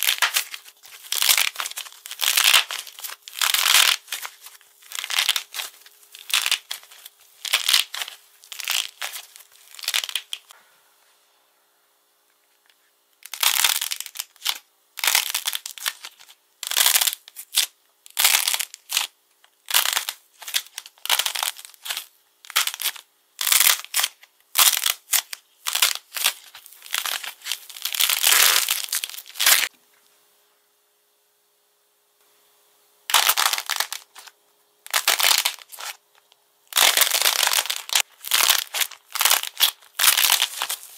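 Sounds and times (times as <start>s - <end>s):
hardened coating cracking and crunching: 0.0s - 10.5s, 13.2s - 29.7s, 33.1s - 34.3s, 34.9s - 40.9s.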